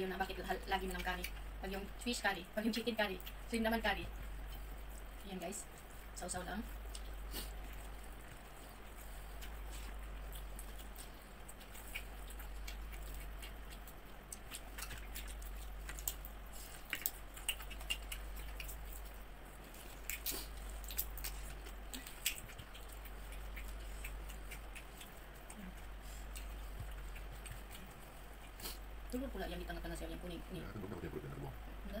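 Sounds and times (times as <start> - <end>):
chewing: 0.0 - 29.9
steady low hum: 0.0 - 32.0.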